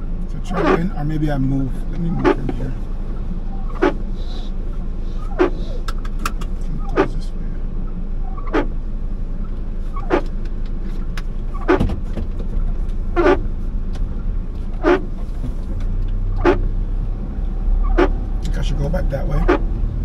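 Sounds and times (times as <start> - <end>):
car low rumble: 0.0 - 20.0
windshield wipers sweeping: 1.7 - 7.4, 8.2 - 19.9.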